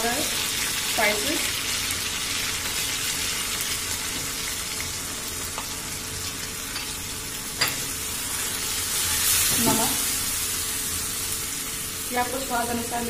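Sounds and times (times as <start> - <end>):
onions and spices sizzling in oil: 0.0 - 13.0.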